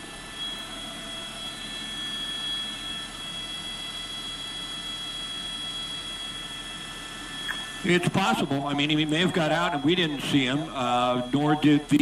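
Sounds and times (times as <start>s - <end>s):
helicopter turbine whine and hiss: 0.0s - 12.0s.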